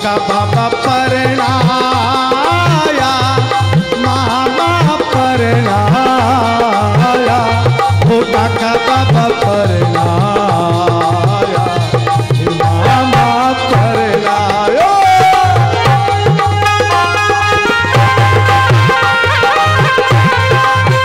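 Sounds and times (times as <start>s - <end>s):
hand drum rhythm: 0.0s - 21.0s
harmonium melody: 0.0s - 21.0s.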